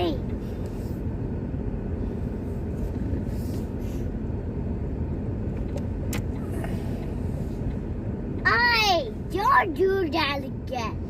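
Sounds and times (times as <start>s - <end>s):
car cabin low rumble: 0.0s - 11.0s.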